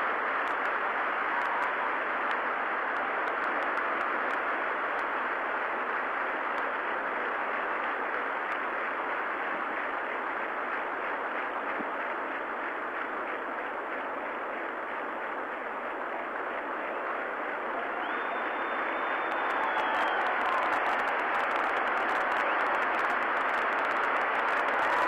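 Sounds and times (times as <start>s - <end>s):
stadium crowd cheering: 0.0s - 25.0s.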